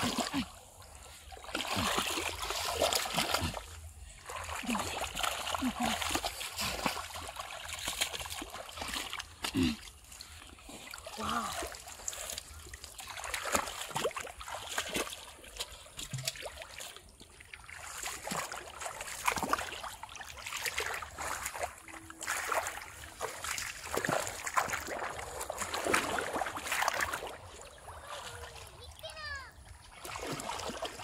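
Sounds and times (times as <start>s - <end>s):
muddy water splashing: 0.0s - 31.0s.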